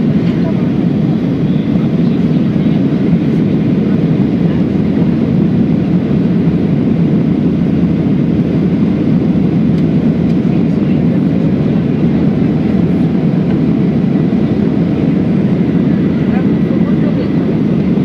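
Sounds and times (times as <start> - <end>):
airliner cabin engine noise: 0.0 - 18.0.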